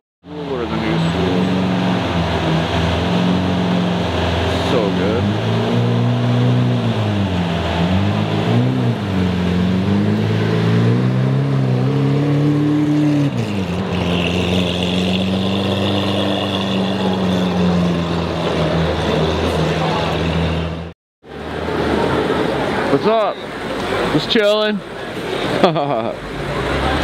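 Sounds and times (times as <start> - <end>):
car engine revving: 0.3 - 27.0.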